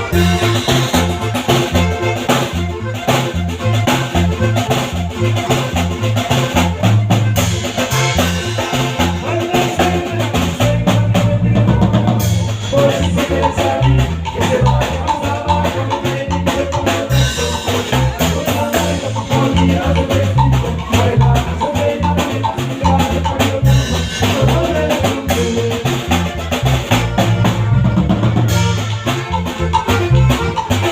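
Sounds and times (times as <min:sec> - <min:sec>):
band playing instrumental music: 0:00.0 - 0:30.9
drum kit: 0:00.0 - 0:30.9
pulsing bass line: 0:00.0 - 0:30.9.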